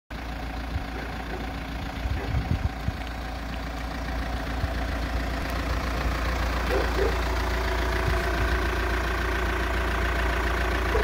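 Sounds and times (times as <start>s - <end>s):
van engine idling: 0.1s - 11.0s.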